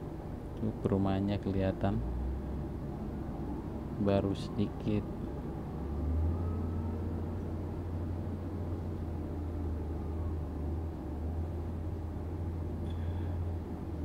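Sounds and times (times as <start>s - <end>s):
road noise: 0.0s - 14.0s
vehicle running: 0.0s - 14.0s.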